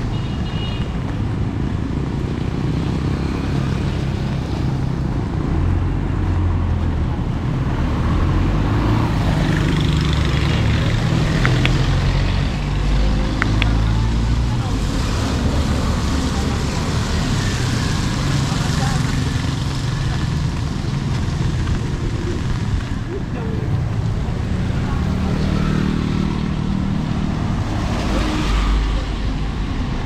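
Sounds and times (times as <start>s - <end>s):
traffic: 0.0s - 30.0s.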